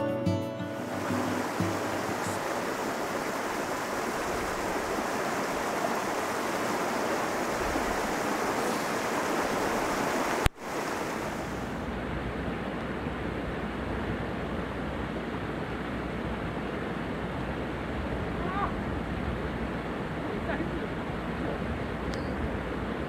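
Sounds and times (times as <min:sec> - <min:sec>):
rushing mountain stream: 0:00.6 - 0:23.0.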